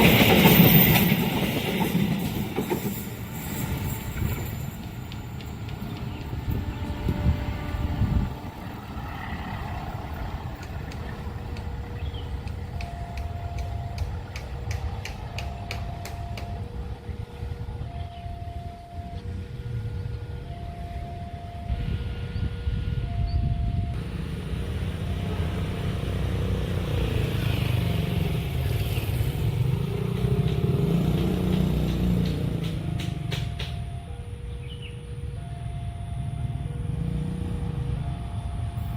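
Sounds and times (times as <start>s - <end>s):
heavy vehicles rumbling past: 0.0s - 38.9s.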